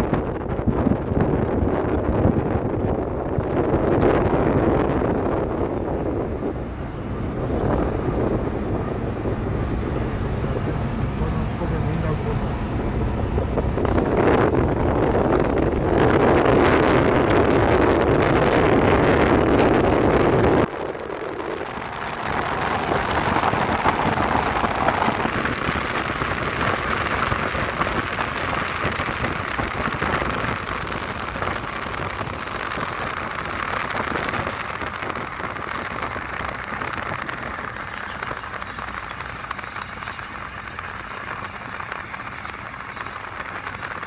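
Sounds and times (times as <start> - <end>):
wind rumble on microphone: 0.0 - 44.0.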